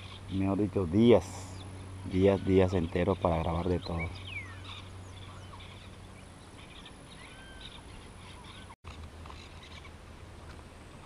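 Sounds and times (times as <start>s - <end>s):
birds chirping and whistling: 0.0s - 10.0s
low background rumble: 0.0s - 11.0s.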